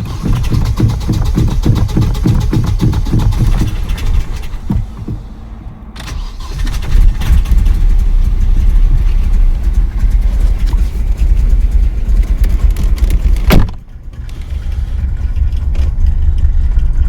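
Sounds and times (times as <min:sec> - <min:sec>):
car engine cranking and running: 0:00.0 - 0:17.0.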